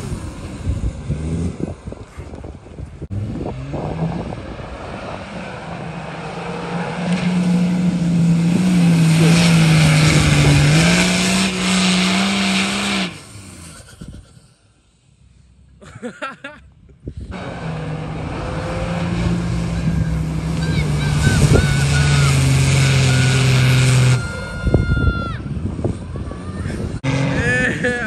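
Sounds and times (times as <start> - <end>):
off-road vehicle engine under load: 0.0 - 28.0.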